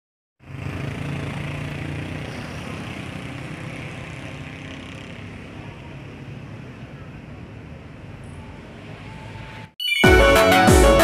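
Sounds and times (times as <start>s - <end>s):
vehicle engine humming: 0.4s - 9.7s.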